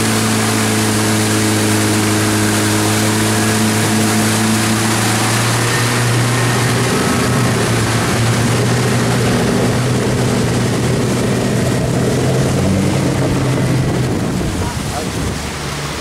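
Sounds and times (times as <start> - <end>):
motorboat engine running: 0.0 - 16.0
rush of boat wake: 0.0 - 16.0.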